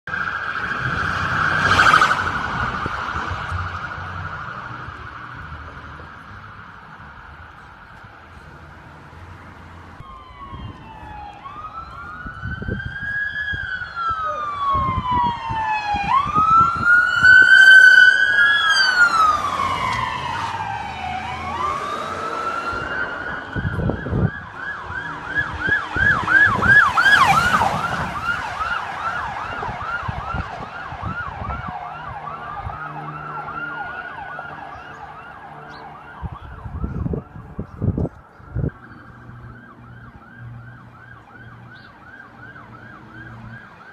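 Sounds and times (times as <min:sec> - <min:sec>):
police sirens wailing and yelping: 0:00.0 - 0:43.9
sharp siren blast: 0:00.1 - 0:05.6, 0:10.0 - 0:43.9.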